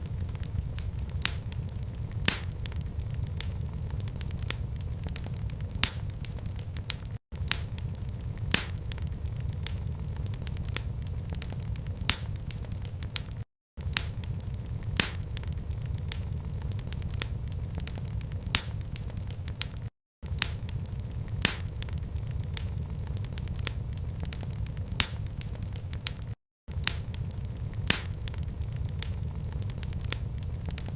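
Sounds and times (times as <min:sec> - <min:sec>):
wood fire crackling: 0:00.0 - 0:30.9.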